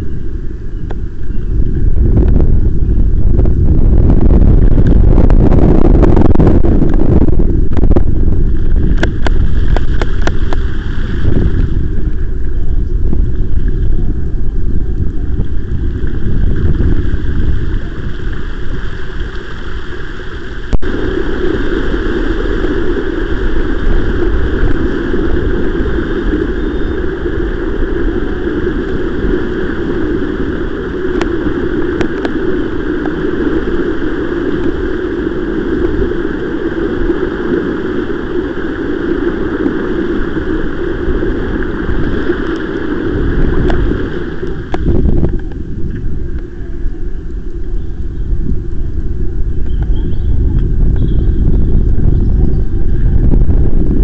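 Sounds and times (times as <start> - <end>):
steady rushing noise: 0.0 - 54.0
wind rumbling on microphone: 0.0 - 54.0.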